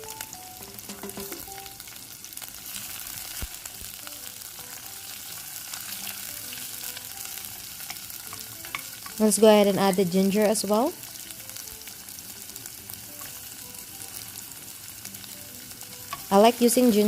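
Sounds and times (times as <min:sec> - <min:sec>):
garlic and onion sizzling in oil: 0:00.0 - 0:17.0.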